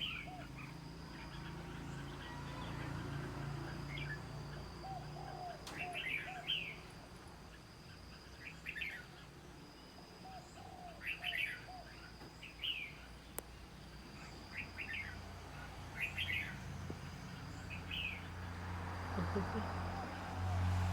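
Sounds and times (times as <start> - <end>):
faint high whine: 0.0 - 20.9
small birds chirping: 0.0 - 20.9
soft low bird calls: 0.0 - 20.9.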